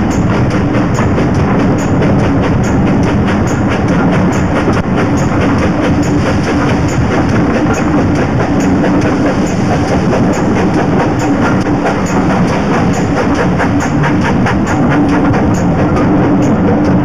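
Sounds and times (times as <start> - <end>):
steam train rumbling and rattling: 0.0 - 17.0.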